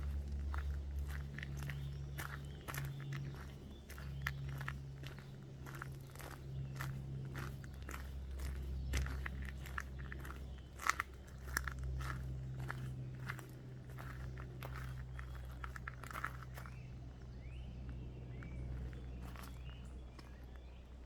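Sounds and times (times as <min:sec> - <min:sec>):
footsteps crunching on gravel: 0:00.0 - 0:20.8
steady low hum: 0:00.0 - 0:21.0.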